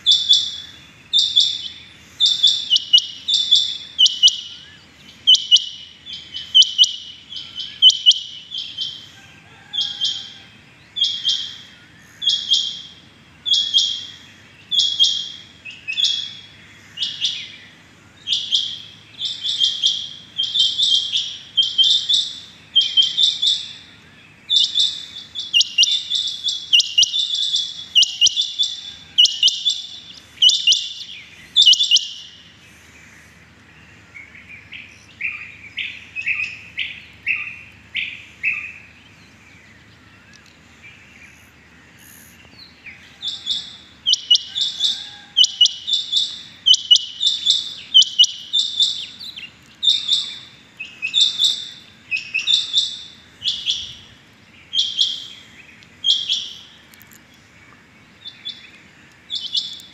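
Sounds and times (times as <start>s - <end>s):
quail calling: 0.0s - 38.8s, 42.9s - 56.8s.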